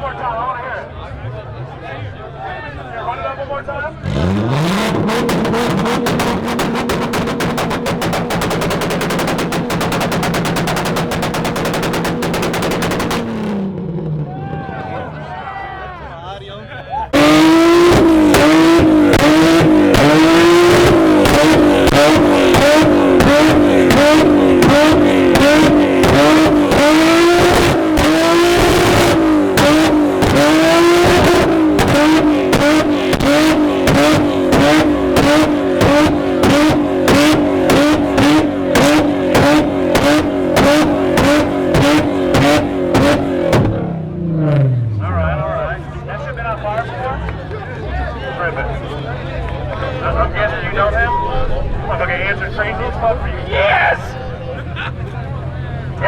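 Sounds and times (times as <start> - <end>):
car engine revving: 3.9 - 15.2, 17.1 - 56.0.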